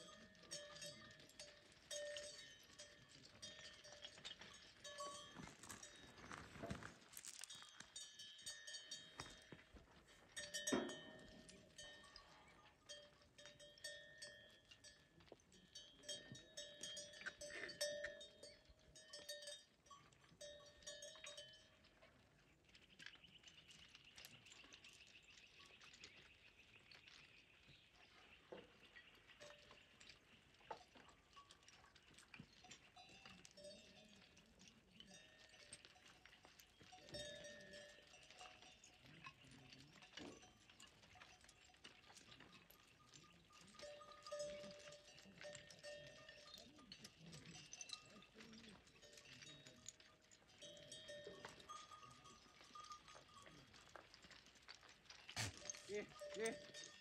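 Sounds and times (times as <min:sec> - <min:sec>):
animal bells clinking: 0:00.0 - 0:57.0
hooves clicking on stones: 0:00.0 - 0:57.0.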